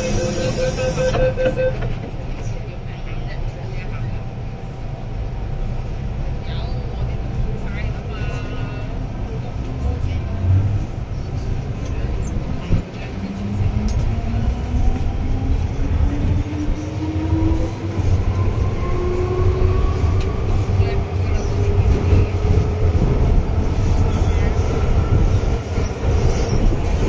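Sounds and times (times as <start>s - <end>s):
wheels rumbling on track: 0.0s - 27.0s.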